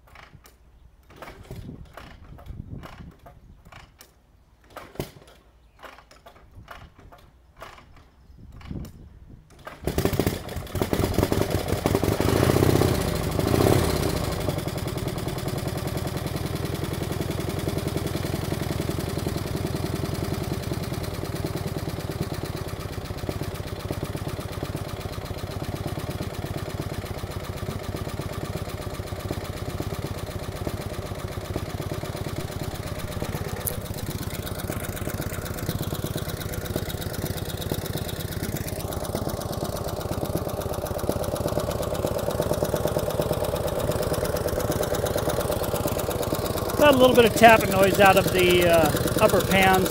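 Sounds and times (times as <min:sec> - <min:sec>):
motorcycle engine starting and idling: 0:00.0 - 0:49.9.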